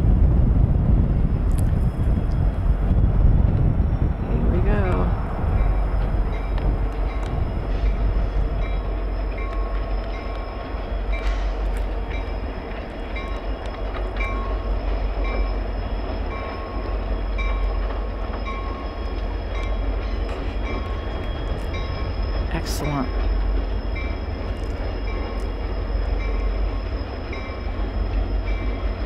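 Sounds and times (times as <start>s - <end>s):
diesel locomotives rumbling: 0.0s - 29.0s.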